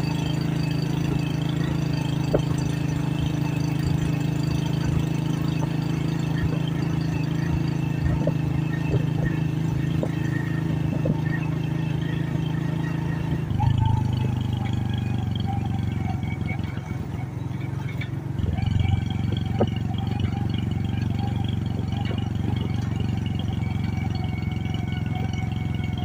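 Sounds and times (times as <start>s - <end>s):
small motorcycle engine running: 0.0s - 26.0s.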